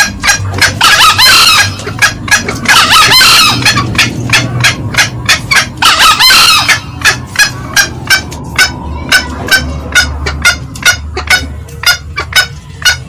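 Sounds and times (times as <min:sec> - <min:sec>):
junglefowl cackling: 0:00.0 - 0:13.0
junglefowl crowing: 0:00.0 - 0:13.0.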